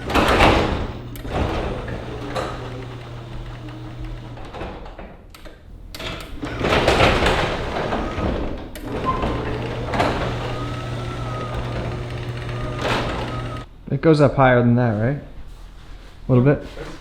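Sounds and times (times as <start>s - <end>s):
garage door rattling on tracks: 0.0s - 13.7s.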